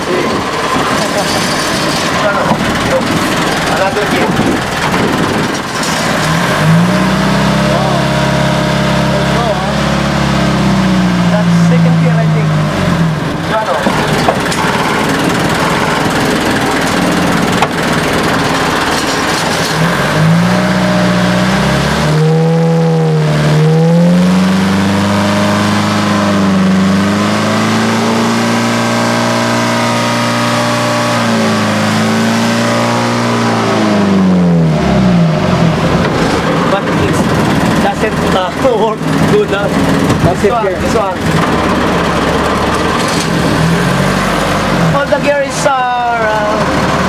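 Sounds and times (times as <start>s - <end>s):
boat engine running: 0.0s - 47.0s.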